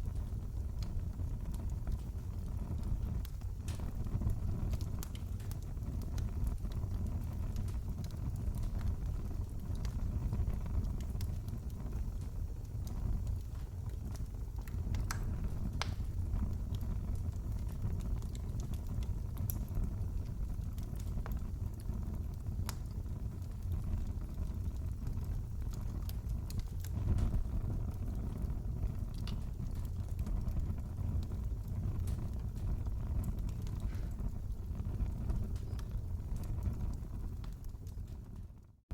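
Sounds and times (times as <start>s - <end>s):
fire crackling and popping: 0.0s - 38.9s
wood fire rumbling: 0.0s - 38.9s.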